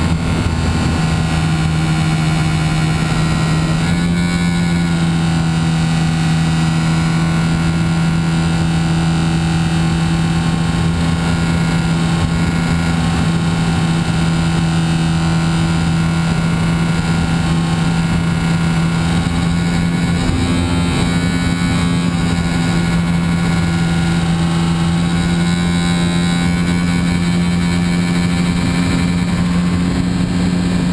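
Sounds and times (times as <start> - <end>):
model airplane motor and propeller: 0.0 - 30.9
wind on microphone: 0.0 - 30.9.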